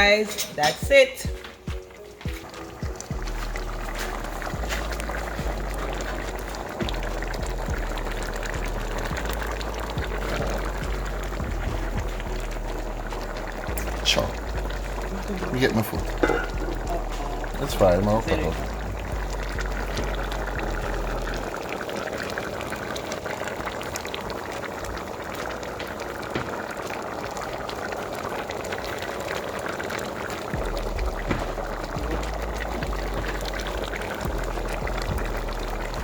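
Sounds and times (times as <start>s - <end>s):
stew bubbling at a simmer: 0.9s - 36.0s.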